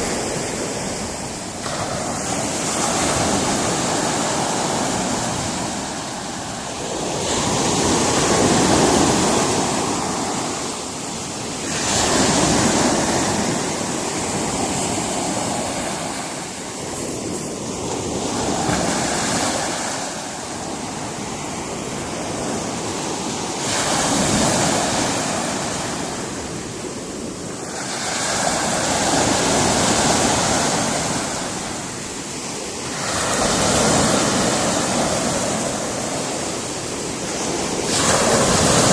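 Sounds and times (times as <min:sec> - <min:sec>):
waves breaking on rocky shore: 0:00.0 - 0:38.9.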